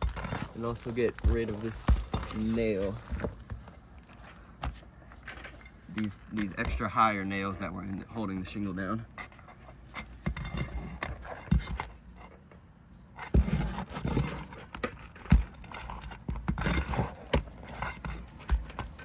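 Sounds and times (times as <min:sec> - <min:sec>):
flat bar scraping roof shingles: 0:00.0 - 0:19.0.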